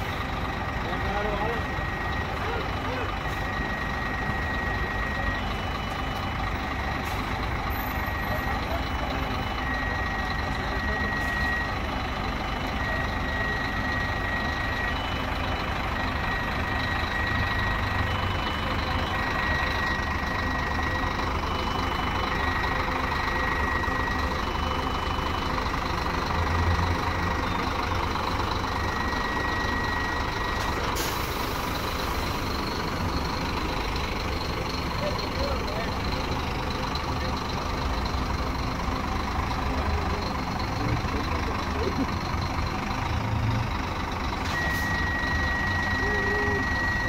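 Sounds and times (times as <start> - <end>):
diesel engine rumble: 0.0 - 47.0
two-tone reversing alarm: 0.0 - 47.0.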